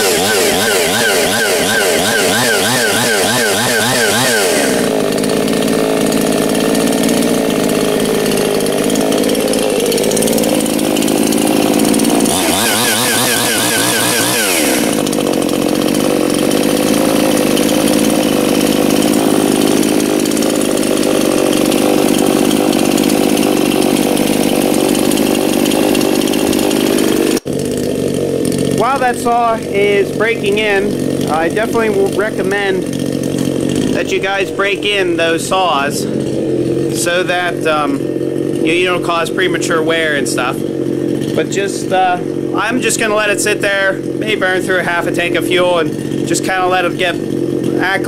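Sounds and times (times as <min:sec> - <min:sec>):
chainsaw revving and idling: 0:00.0 - 0:48.0.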